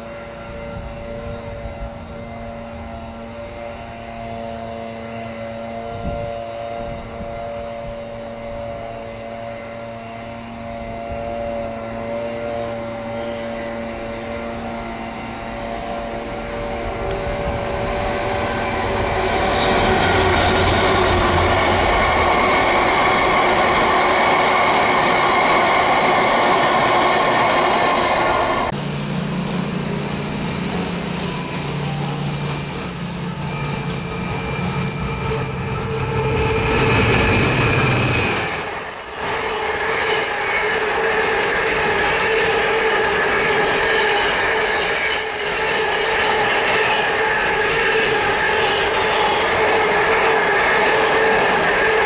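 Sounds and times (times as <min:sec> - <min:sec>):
diesel locomotive hum: 0:00.0 - 0:52.0
train wheels on track: 0:00.0 - 0:52.0.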